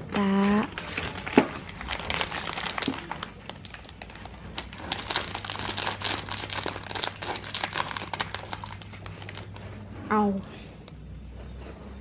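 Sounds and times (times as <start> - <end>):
plastic snack wrappers crinkling: 0.0 - 10.0.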